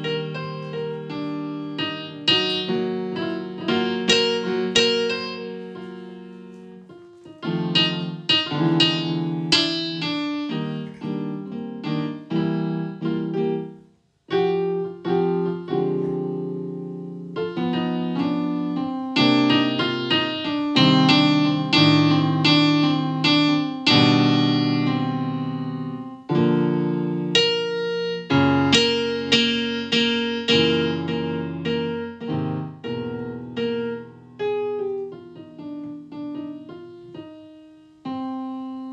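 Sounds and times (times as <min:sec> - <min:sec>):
solo piano chords and melody: 0:00.0 - 0:38.9.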